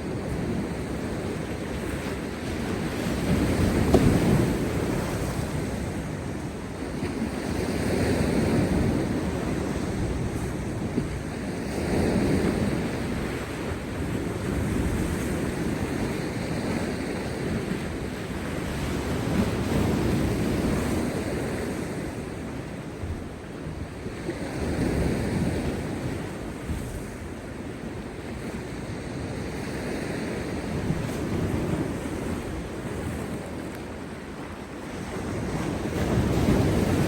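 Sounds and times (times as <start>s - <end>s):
sea waves breaking over rocks: 0.0s - 37.0s
wind buffeting the microphone: 0.0s - 37.0s.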